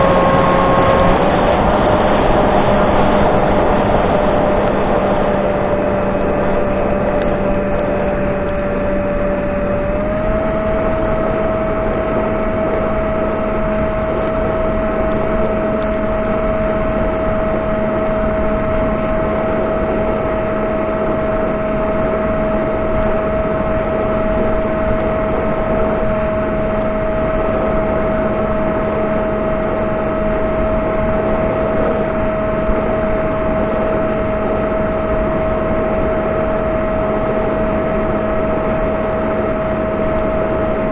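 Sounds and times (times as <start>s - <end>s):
electric motor whine: 0.0s - 40.9s
rushing airflow: 0.0s - 40.9s.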